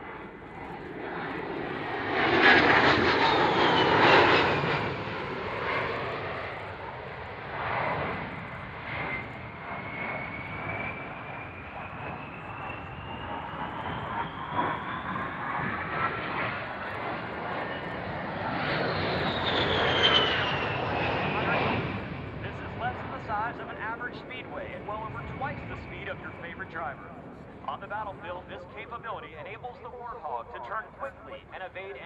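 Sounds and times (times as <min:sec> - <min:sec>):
jet engine whine passing: 0:00.0 - 0:32.0.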